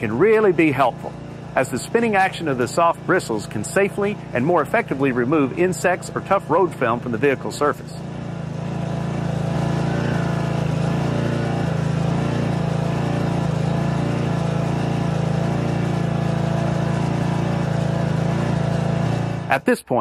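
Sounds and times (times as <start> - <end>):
pressure washer engine running: 0.0 - 20.0.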